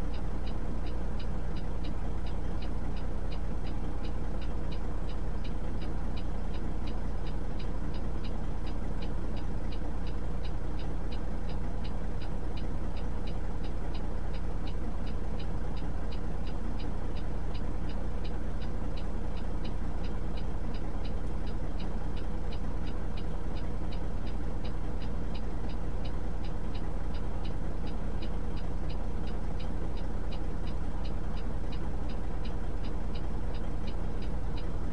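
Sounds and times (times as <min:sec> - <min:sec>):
even ticking: 0:00.0 - 0:34.9
truck engine idling: 0:00.0 - 0:34.9.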